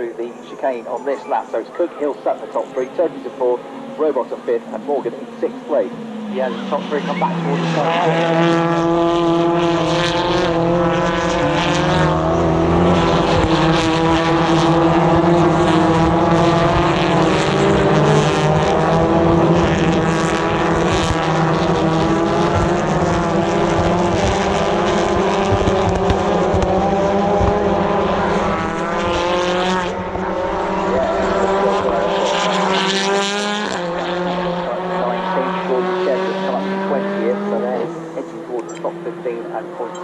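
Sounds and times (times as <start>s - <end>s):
racing car engines passing: 0.0s - 40.0s.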